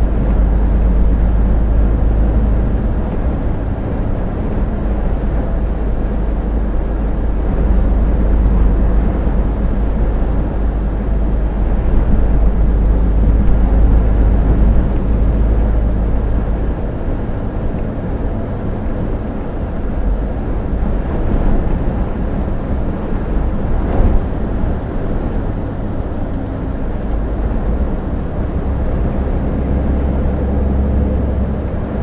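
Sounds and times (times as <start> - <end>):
engine drone: 0.0 - 32.0
road and wind noise: 0.0 - 32.0.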